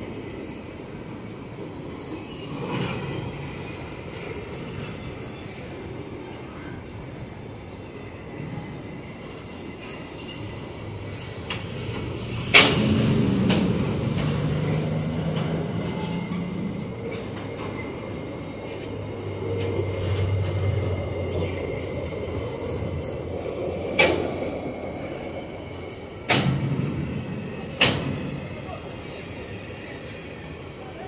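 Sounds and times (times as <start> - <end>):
freight train rumbling past: 0.0 - 31.0.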